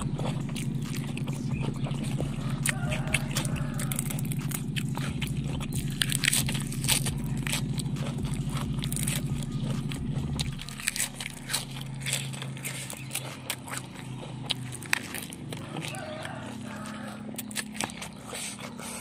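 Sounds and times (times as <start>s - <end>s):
crunching and chewing greens: 0.0s - 19.0s
low steady hum: 0.0s - 19.0s.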